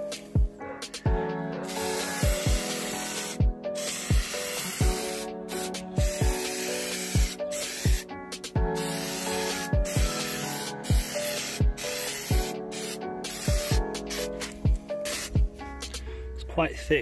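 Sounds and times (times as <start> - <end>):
background music with beat: 0.0 - 16.2
aerosol can spraying: 1.6 - 15.5.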